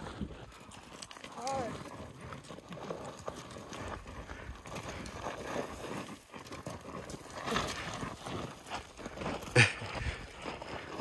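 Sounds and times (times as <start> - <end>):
sliding stones scraping: 0.0 - 11.0
boots crunching on scree: 1.3 - 11.0.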